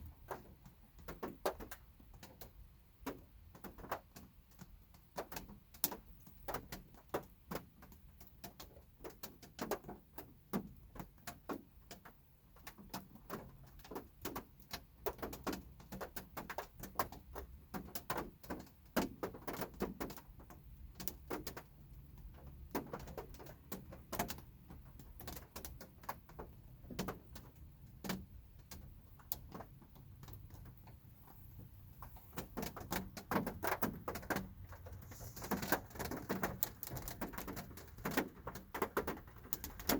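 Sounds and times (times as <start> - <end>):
raindrops tapping on car body: 0.1 - 39.9.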